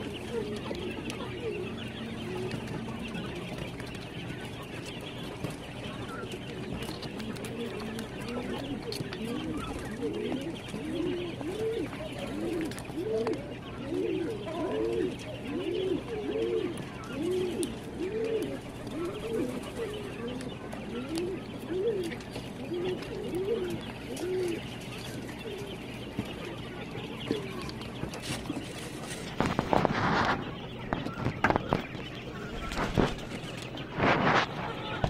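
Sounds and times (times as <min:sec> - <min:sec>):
quail calling: 0:00.0 - 0:35.0.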